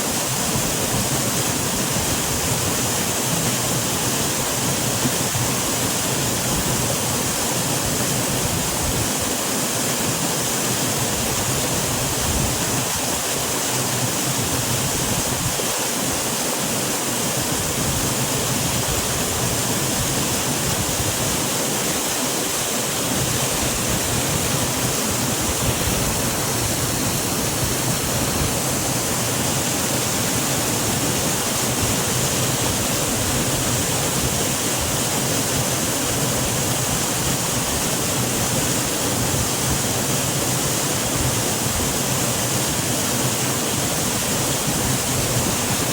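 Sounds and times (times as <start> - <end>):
waterfall splashing: 0.0 - 45.9.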